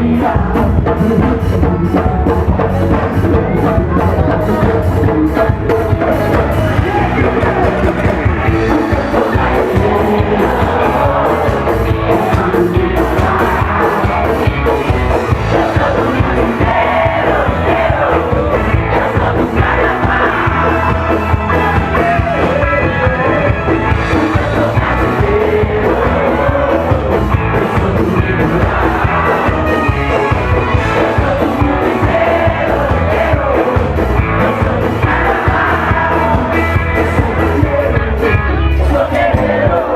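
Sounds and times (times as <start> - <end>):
driving drum beat: 0.0 - 39.9
live carnival band music: 0.0 - 39.9
person singing: 0.0 - 39.9.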